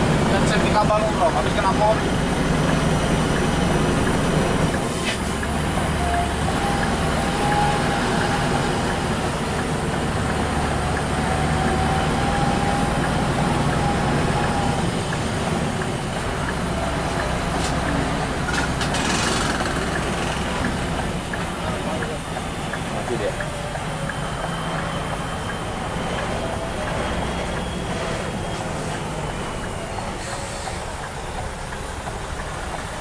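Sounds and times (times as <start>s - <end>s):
diesel engine low drone: 0.0s - 33.0s.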